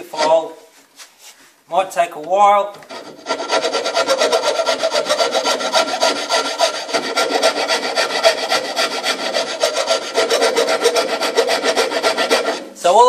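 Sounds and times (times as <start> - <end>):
file rasping through wood: 0.0 - 0.6, 2.7 - 12.8.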